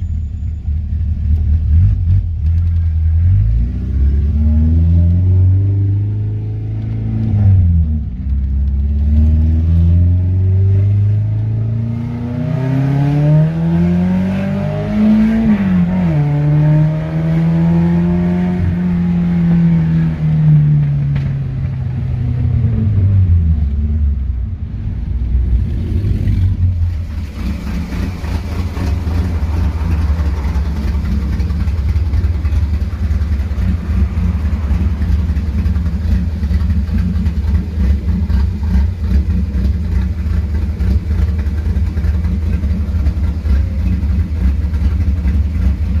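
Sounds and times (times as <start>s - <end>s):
car engine idling with rumble: 0.0s - 46.0s.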